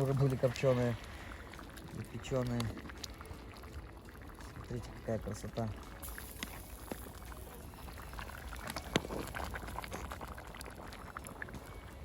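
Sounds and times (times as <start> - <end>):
soup bubbling at a boil: 0.0 - 12.0.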